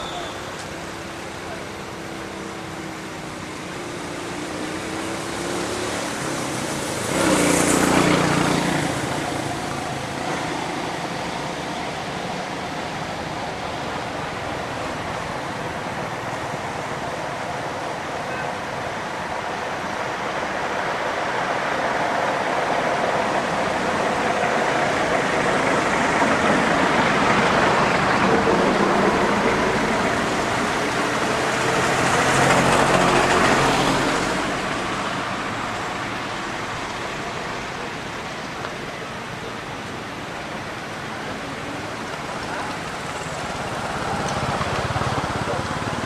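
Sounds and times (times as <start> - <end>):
vehicle passing close: 0.0 - 17.1, 19.2 - 46.0
motor traffic: 0.0 - 46.0.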